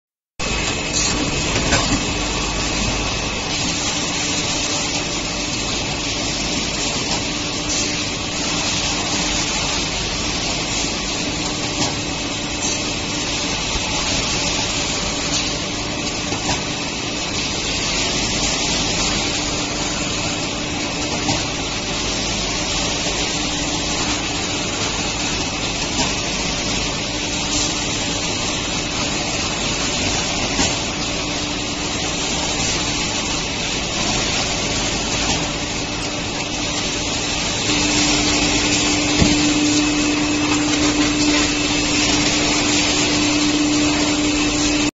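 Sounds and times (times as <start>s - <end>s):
machinery hiss: 0.4s - 44.9s.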